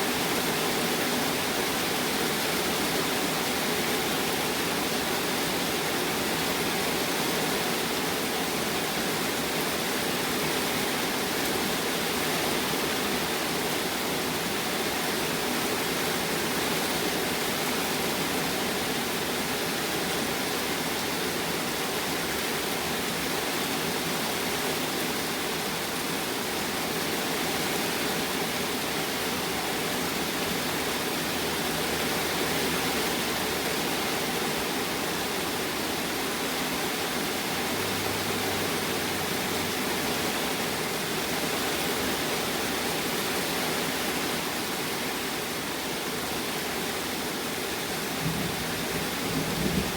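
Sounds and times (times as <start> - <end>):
rain falling steadily: 0.0 - 49.9.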